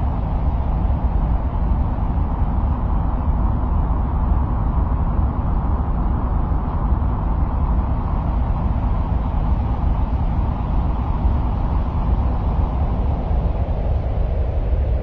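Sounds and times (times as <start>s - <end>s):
deep ambient noise: 0.0s - 15.0s.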